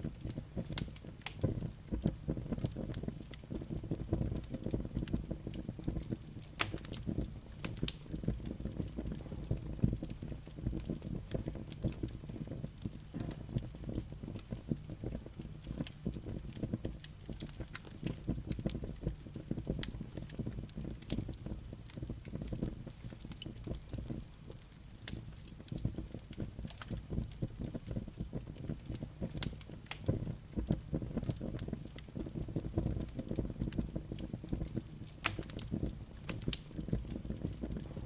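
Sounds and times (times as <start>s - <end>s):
burning logs crackling and popping: 0.0s - 38.0s
fire rumbling in fireplace: 0.0s - 38.0s.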